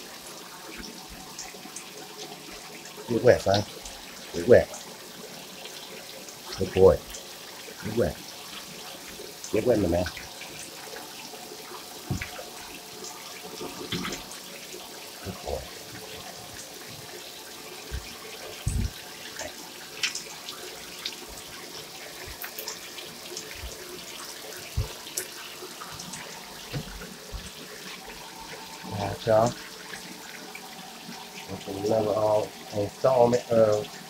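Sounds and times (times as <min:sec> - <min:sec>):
water running into bathtub: 0:00.0 - 0:34.0
water splashing: 0:00.8 - 0:34.0.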